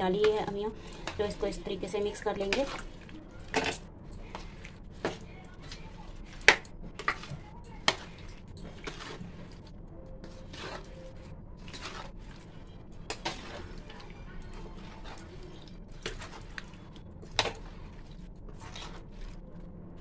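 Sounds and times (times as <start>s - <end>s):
spoon stirring wet food: 0.0s - 20.0s.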